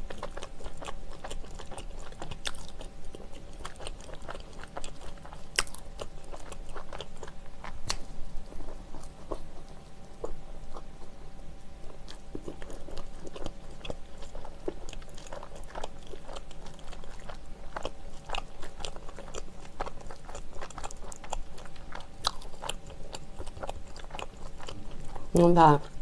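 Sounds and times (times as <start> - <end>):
chewing soft bread: 0.0 - 26.0.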